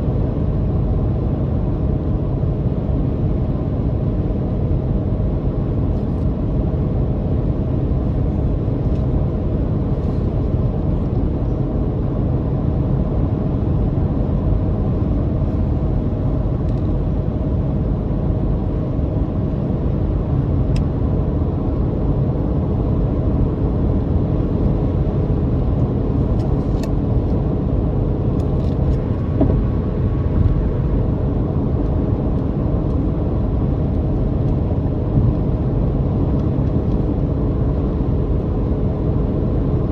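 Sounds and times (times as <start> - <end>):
car motor droning hum: 5.6 - 39.9
road rumble: 5.8 - 39.9.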